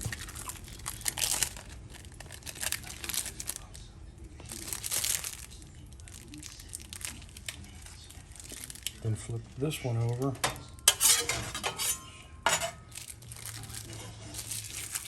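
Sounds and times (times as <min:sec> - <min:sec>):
plastic wrapping crinkling and tearing: 0:00.0 - 0:10.9, 0:12.6 - 0:15.0.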